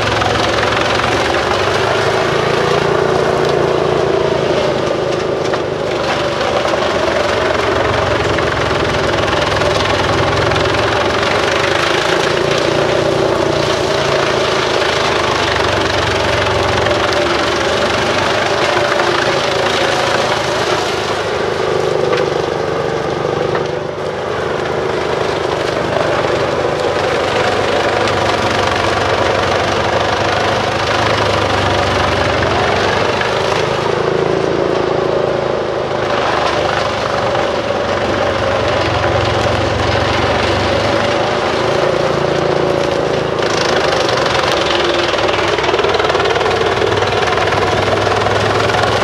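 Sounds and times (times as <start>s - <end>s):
wood chipper engine drone: 0.0s - 49.0s.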